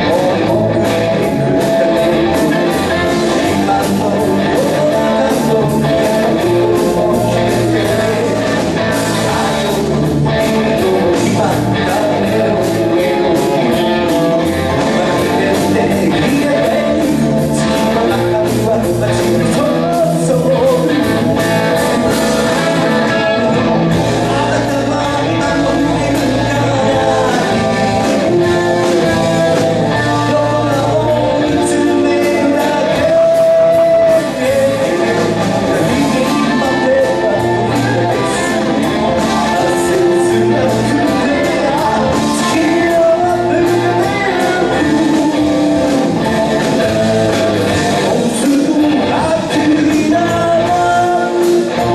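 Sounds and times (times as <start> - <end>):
live rock band playing: 0.0 - 51.9.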